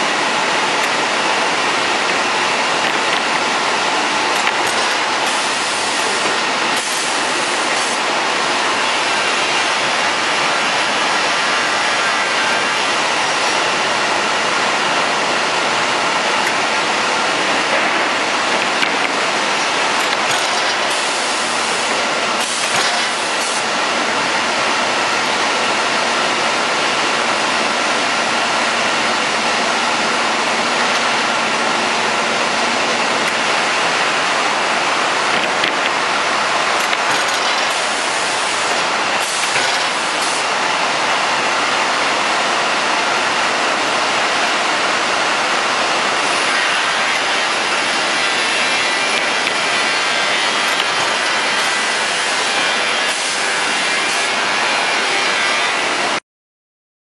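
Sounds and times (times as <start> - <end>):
sanding machine running: 0.0 - 56.2.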